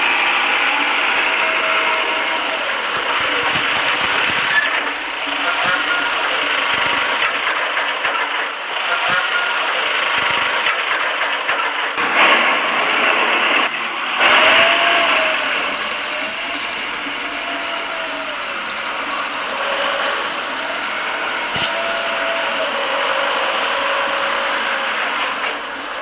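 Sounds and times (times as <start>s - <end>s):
small motor rattling and whirring: 0.0s - 11.8s, 14.2s - 26.0s.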